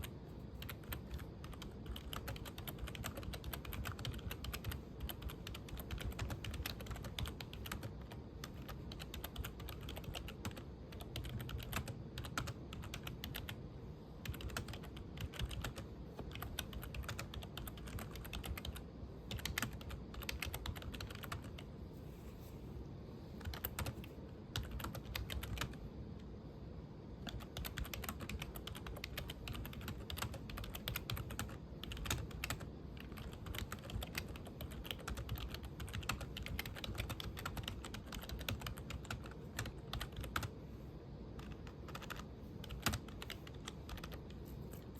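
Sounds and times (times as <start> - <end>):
computer keyboard typing: 0.0 - 13.6, 14.2 - 21.7, 23.4 - 25.8, 27.2 - 40.6, 41.3 - 44.9.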